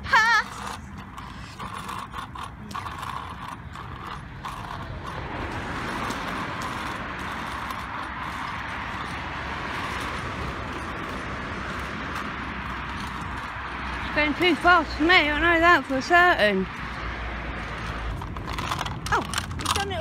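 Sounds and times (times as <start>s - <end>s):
rapid clicking and rattling: 0.0s - 20.0s
wind and road noise: 0.0s - 20.0s.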